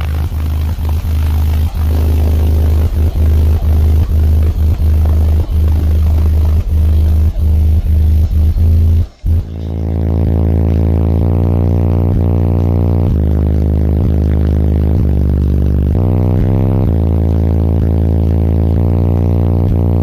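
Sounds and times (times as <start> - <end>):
deep bass from car subwoofers: 0.0 - 20.0.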